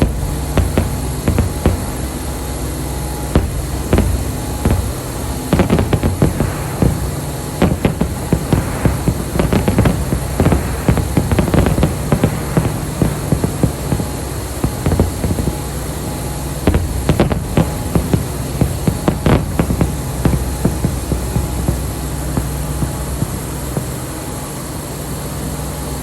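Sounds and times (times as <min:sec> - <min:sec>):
fireworks crackling and popping: 0:00.0 - 0:25.9
steady low rumble: 0:00.0 - 0:26.0.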